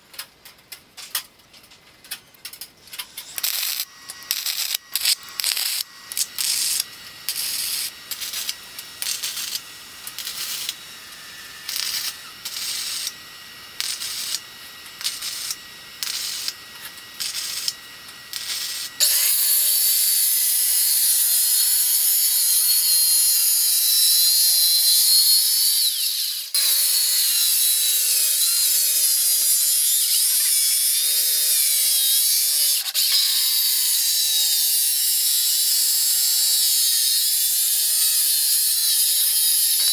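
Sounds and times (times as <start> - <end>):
welder crackling buzz: 0.0 - 39.9
circular saw cutting plywood: 3.0 - 39.9.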